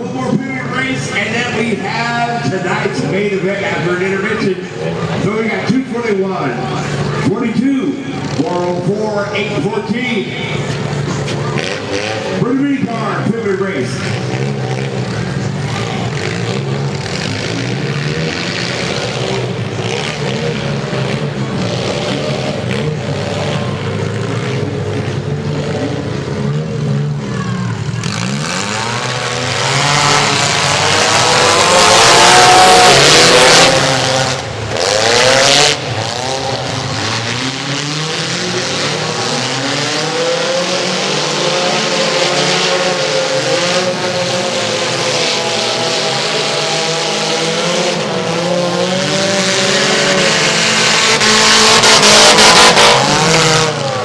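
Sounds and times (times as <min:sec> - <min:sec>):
small car engines revving: 0:00.0 - 0:54.0.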